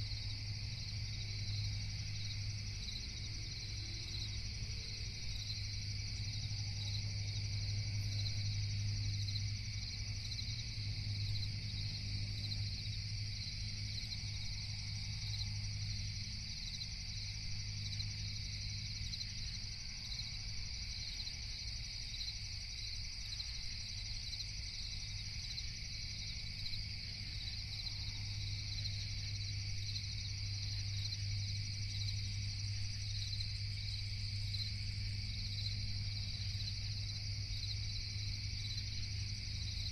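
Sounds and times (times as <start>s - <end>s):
crickets chirping: 0.0s - 39.9s
low steady drone: 0.0s - 39.9s.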